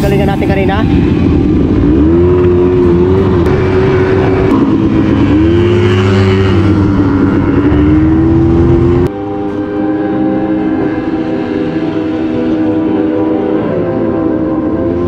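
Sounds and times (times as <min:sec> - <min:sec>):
quad bike engine revving: 0:01.2 - 0:15.0.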